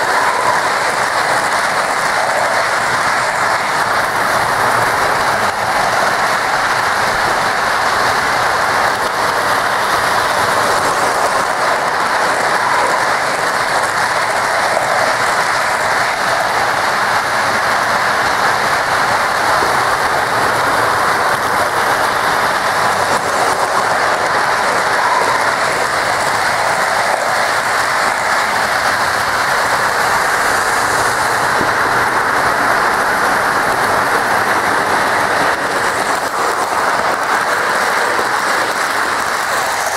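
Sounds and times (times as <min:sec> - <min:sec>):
model train wheels clattering on rails: 0:00.0 - 0:39.9.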